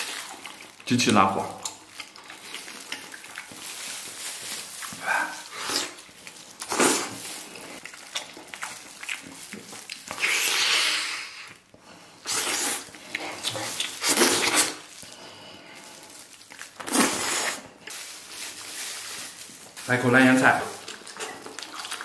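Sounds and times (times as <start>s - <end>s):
wet chewing and slurping: 0.0s - 0.9s, 1.6s - 18.0s, 20.6s - 22.0s.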